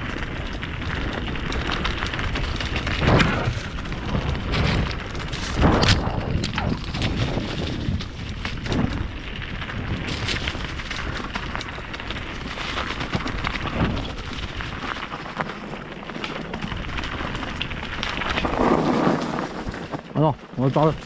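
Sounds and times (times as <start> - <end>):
bike knocks and rattles: 0.0 - 20.2
bike tyres rushing on trail: 0.0 - 21.0.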